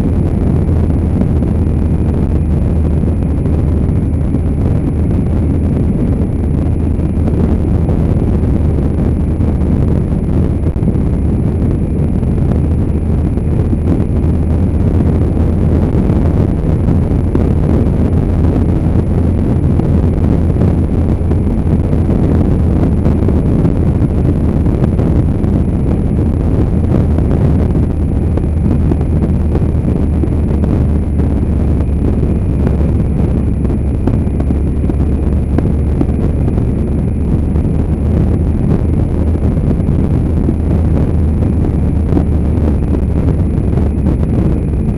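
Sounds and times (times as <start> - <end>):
motorbike engine rumble: 0.0 - 44.9
wind buffeting microphone: 0.0 - 44.9.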